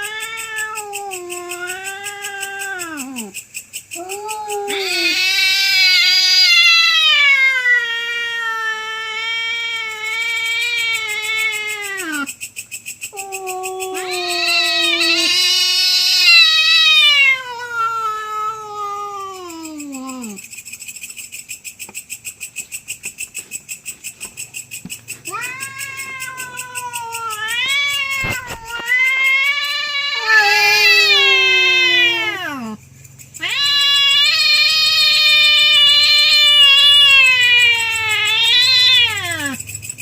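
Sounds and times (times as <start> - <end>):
cats yowling: 0.0 - 3.4, 4.0 - 12.3, 13.1 - 20.4, 25.1 - 32.8, 33.4 - 39.7.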